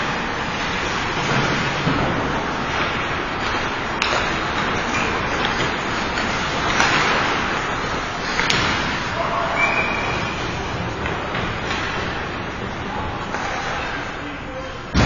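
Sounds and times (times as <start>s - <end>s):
ice rink rushing noise: 0.0s - 15.0s.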